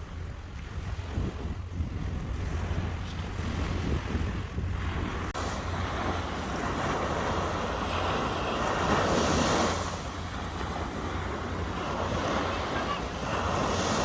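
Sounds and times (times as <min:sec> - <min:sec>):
sea waves washing ashore: 0:00.0 - 0:14.0
wind on microphone: 0:00.0 - 0:14.0.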